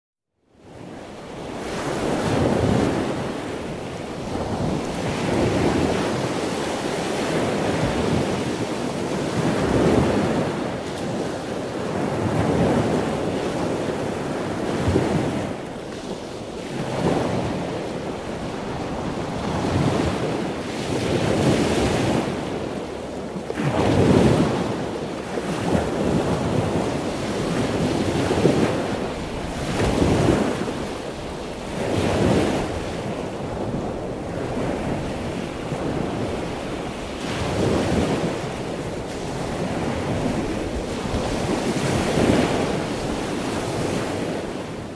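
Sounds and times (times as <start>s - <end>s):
sea waves washing on shore: 0.6s - 44.9s
wind buffeting microphone: 0.6s - 44.9s.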